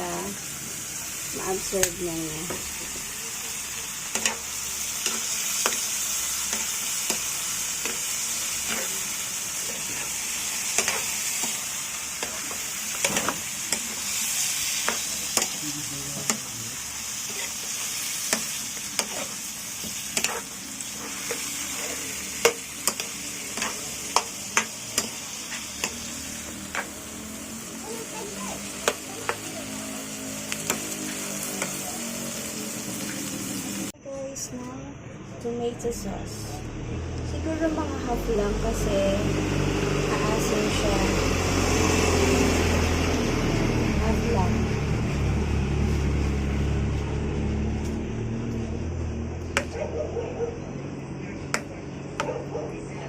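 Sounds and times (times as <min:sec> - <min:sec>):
chicken wings sizzling in oil: 0:00.0 - 0:34.0, 0:37.7 - 0:49.7.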